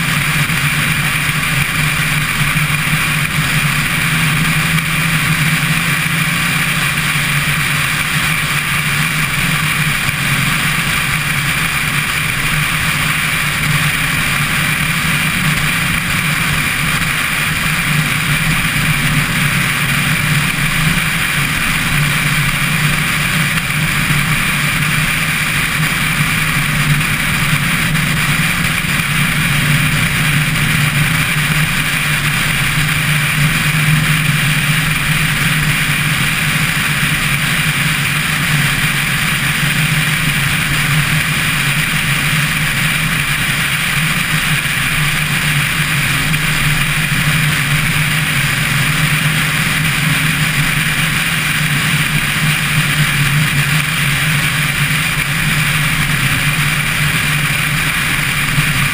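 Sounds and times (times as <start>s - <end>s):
car engine drone: 0.0s - 58.9s
road and wind noise: 0.0s - 58.9s.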